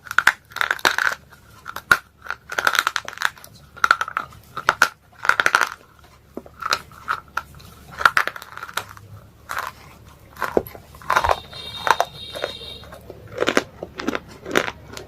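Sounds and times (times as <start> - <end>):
slate pencil crunching when chewed: 0.0 - 15.0.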